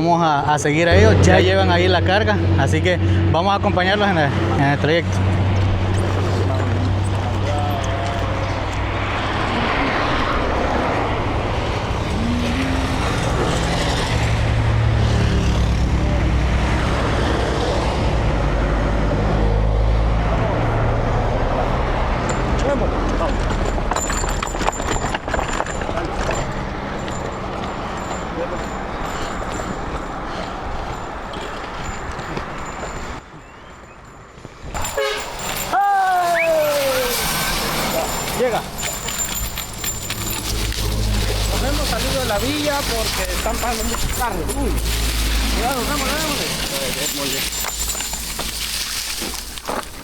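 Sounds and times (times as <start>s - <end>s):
road noise rushing: 0.0s - 50.0s
vehicle engine humming: 0.6s - 33.3s, 34.8s - 50.0s.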